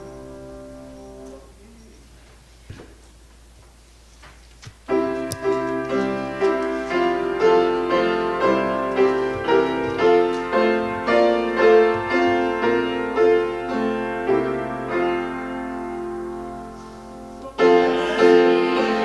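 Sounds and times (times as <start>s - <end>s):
piano playing slow chords: 0.0s - 1.6s, 4.9s - 19.0s.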